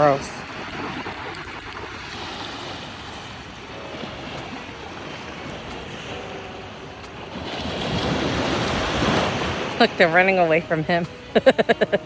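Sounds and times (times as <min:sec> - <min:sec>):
ocean surf washing on shore: 0:00.0 - 0:12.0
wind on microphone: 0:00.0 - 0:12.0.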